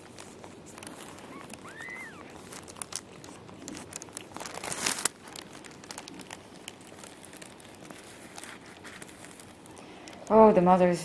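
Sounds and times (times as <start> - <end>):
plastic sheeting crinkling: 0.0 - 10.8.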